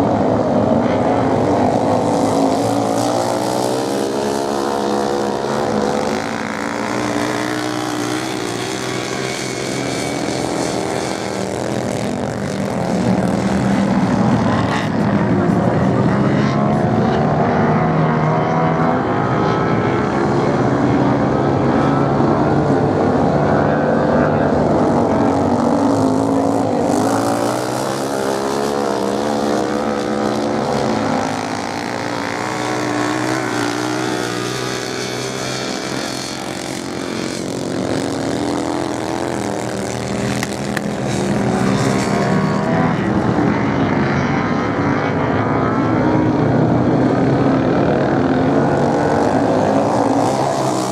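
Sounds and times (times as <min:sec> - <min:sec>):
motorcycle engines racing: 0:00.0 - 0:50.9.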